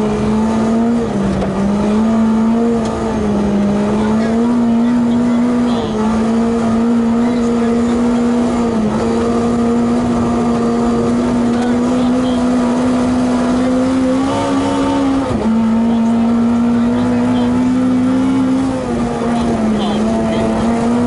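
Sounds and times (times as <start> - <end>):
car engine running hard: 0.0 - 21.0
tyre and road noise: 0.0 - 21.0.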